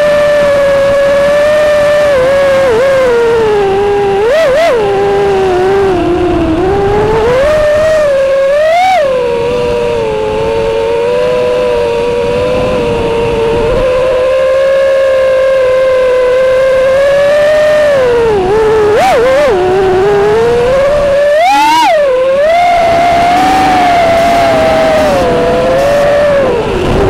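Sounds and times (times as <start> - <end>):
quadcopter motors whining: 0.0 - 27.0.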